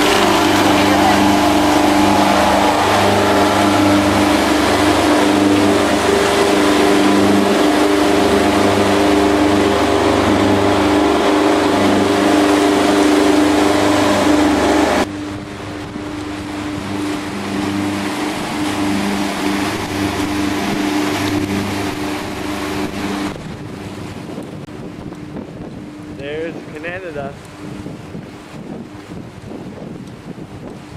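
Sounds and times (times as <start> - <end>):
boat engine droning hum: 0.0 - 30.9
churning wake water rushing: 0.0 - 30.9.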